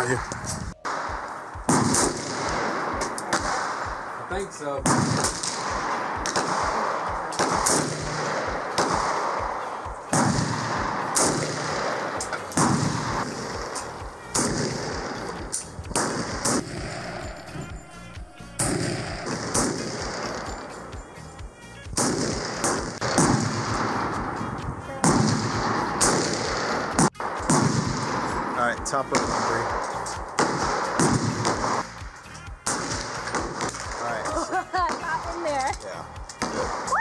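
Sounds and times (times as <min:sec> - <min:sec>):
gunshots with echo: 0:00.0 - 0:37.0.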